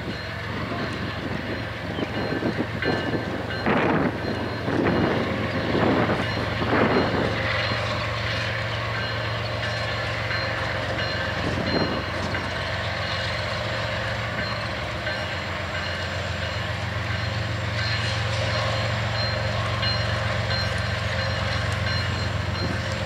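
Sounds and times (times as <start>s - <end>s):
diesel locomotives passing slowly: 0.0s - 23.0s.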